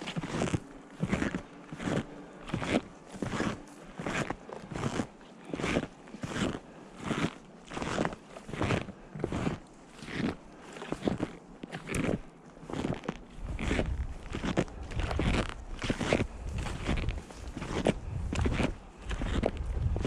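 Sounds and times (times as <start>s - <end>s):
snowshoes crunching into snow: 0.0s - 20.0s.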